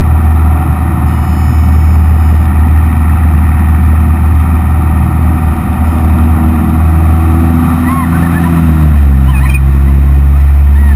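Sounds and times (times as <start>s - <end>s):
propeller plane engine droning: 0.0s - 10.9s.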